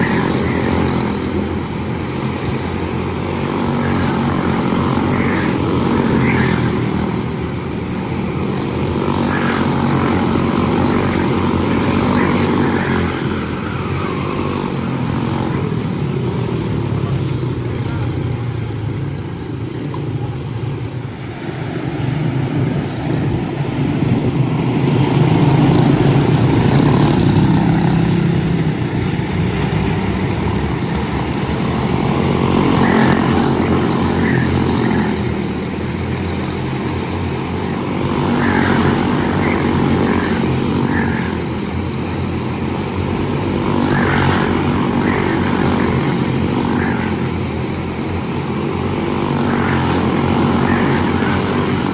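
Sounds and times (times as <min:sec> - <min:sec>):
small race car engines buzzing: 0:00.0 - 0:51.9.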